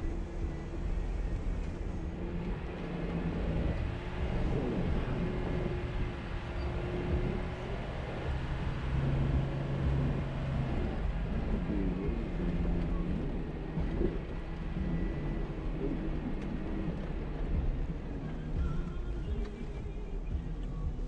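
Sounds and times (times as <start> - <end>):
engine running at low speed: 0.0 - 21.0.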